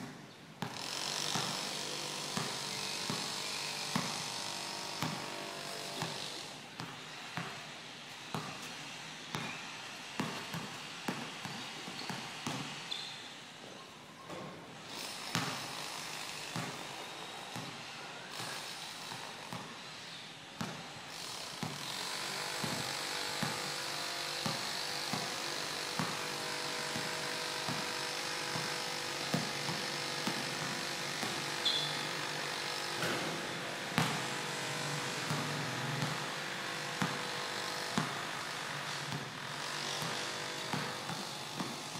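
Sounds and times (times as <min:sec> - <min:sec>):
basketball bouncing on concrete: 0:00.0 - 0:04.3, 0:05.0 - 0:13.2, 0:15.2 - 0:17.8, 0:18.4 - 0:19.7, 0:20.6 - 0:20.8, 0:21.6 - 0:41.9.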